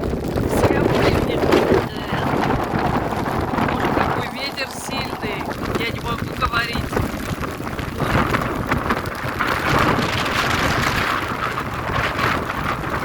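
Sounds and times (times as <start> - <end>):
driving rain: 0.0 - 13.0
wind rushing: 0.0 - 13.0.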